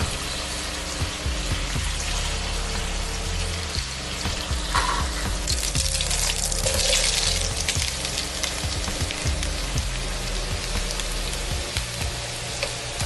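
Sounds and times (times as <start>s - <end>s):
background music with beat: 0.0s - 13.0s
mushrooms sizzling in oil: 0.0s - 13.0s.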